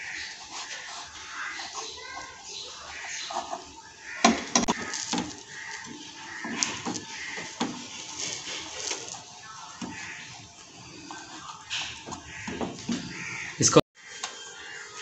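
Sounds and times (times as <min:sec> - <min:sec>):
animal calls: 0:00.0 - 0:15.0.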